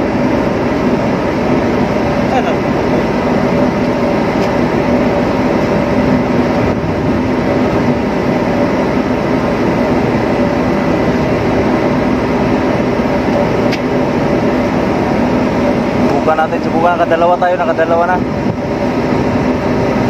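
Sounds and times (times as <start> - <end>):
deck machinery droning: 0.0 - 20.0.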